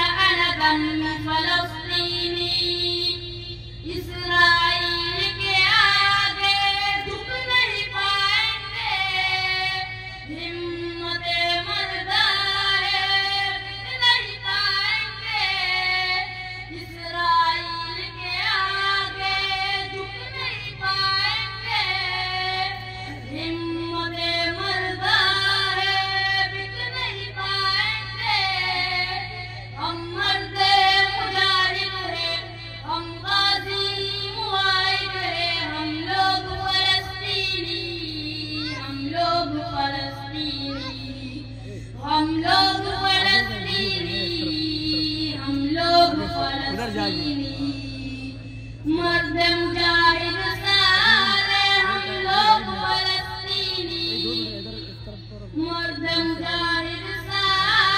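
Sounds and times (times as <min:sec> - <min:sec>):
boy singing over loudspeakers: 0:00.0 - 0:57.9
steady low hum: 0:00.0 - 0:57.9.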